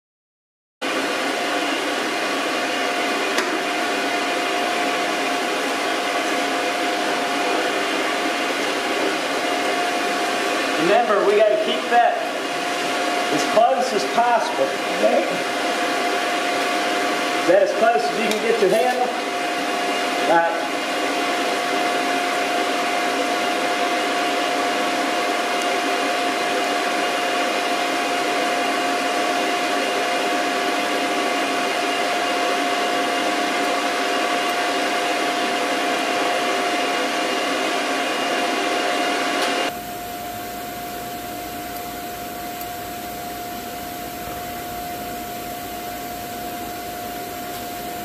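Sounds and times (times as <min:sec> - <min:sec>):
blower rushing with whine: 0:00.8 - 0:48.0.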